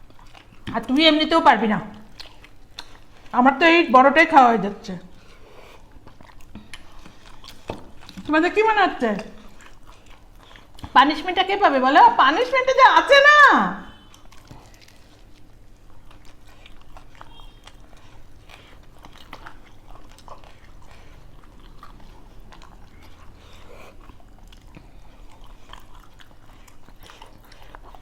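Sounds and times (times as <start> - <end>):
people chewing food: 0.0 - 28.0.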